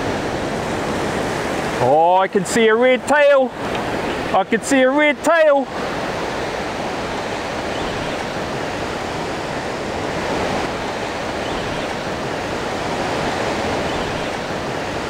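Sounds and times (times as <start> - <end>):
waves breaking on sand: 0.0 - 15.0.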